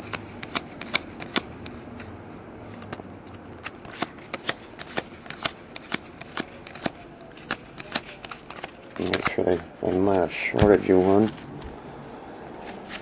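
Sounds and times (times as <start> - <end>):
trading cards snapping: 0.0 - 11.4.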